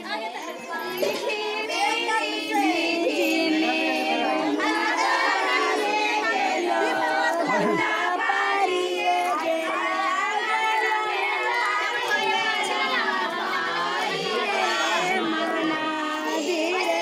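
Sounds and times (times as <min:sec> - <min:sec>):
children's voices: 0:00.0 - 0:17.0
crowd chatter: 0:00.0 - 0:17.0
women singing together: 0:00.0 - 0:17.0.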